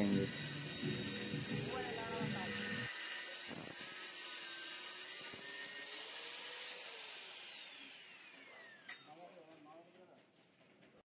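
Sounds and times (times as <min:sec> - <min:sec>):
angle grinder cutting metal pipe: 0:00.0 - 0:09.1.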